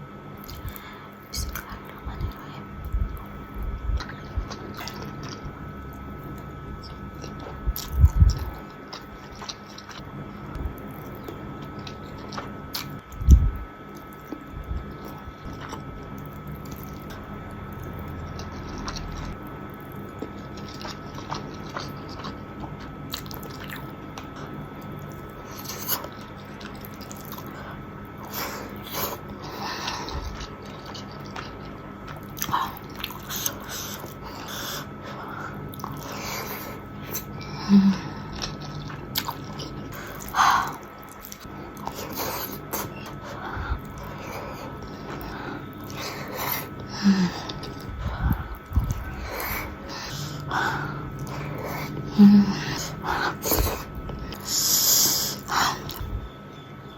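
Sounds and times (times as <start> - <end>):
chewing and biting food: 0.3 - 56.4.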